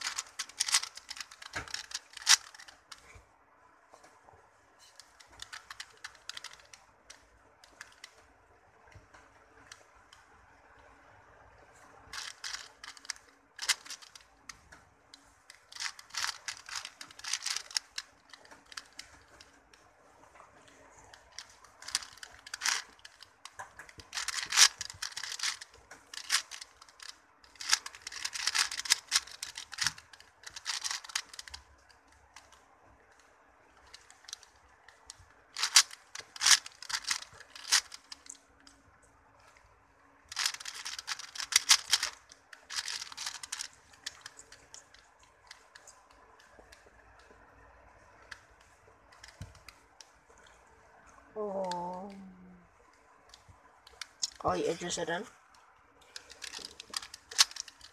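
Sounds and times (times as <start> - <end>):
puzzle cube plastic clicks: 0.0 - 3.2, 4.8 - 8.2, 11.9 - 19.9, 20.5 - 50.6, 53.3 - 55.2, 56.0 - 57.9.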